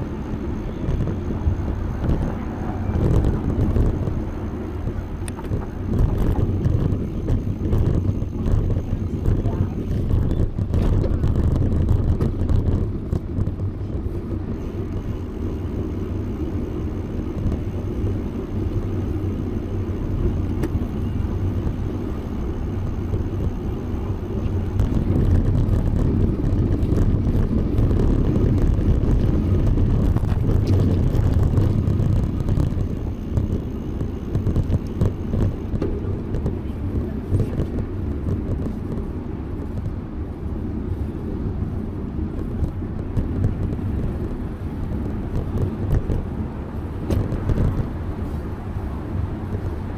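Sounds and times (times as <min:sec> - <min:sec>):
wind and road noise rumble: 0:00.0 - 0:49.9.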